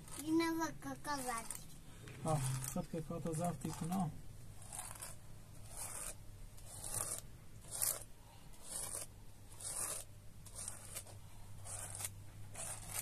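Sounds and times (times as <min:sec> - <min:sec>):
rhythmic scraping strokes: 0:00.0 - 0:13.0.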